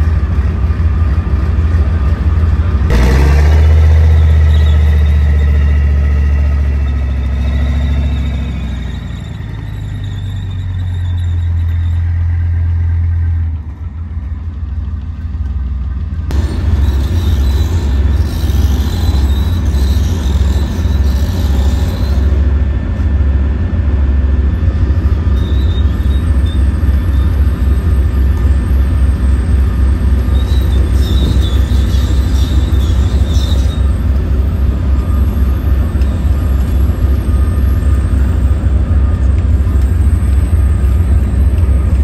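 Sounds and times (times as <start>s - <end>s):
tank engine running: 0.0s - 42.0s.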